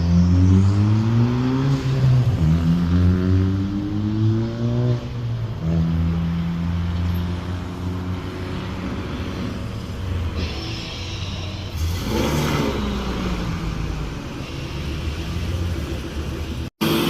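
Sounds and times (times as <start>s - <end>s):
vehicle engine accelerating hard: 0.0s - 17.0s.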